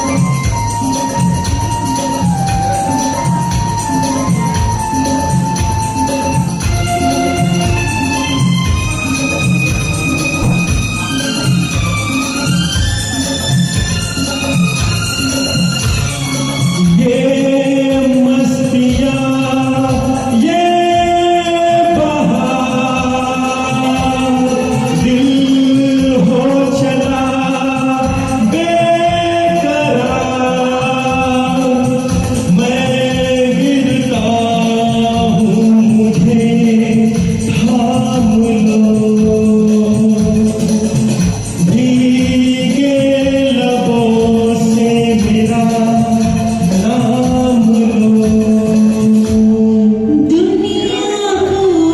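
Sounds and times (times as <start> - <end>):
karaoke backing track: 0.0 - 51.9
person singing: 0.0 - 51.9.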